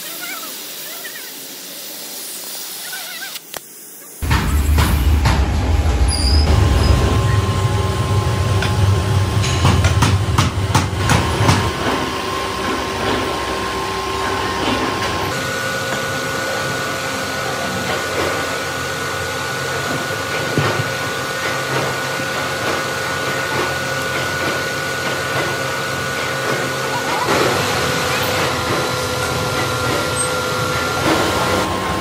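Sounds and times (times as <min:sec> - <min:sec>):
furnace air blower roaring: 0:00.0 - 0:32.0.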